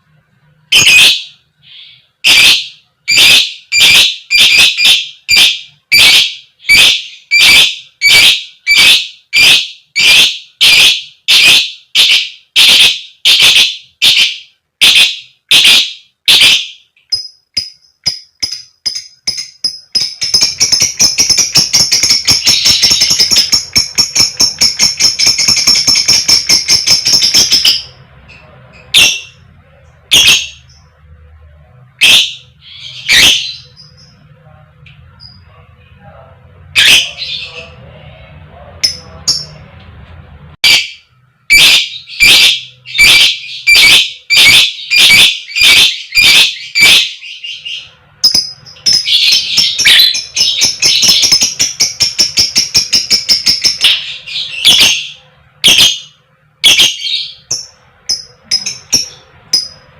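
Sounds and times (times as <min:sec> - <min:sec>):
lovebird chirping: 0:00.6 - 0:31.0, 0:32.0 - 0:34.3, 0:35.0 - 0:35.6, 0:40.6 - 0:59.9.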